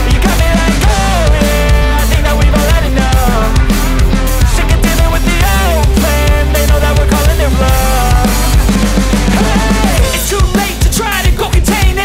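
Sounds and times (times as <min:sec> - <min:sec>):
rock music with drums and bass: 0:00.0 - 0:12.0.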